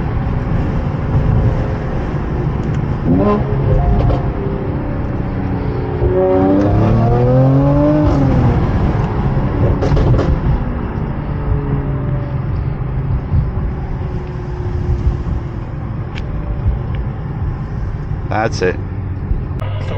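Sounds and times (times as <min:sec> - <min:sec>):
car engine droning: 0:00.0 - 0:19.9
exhaust cracks: 0:00.1 - 0:18.1.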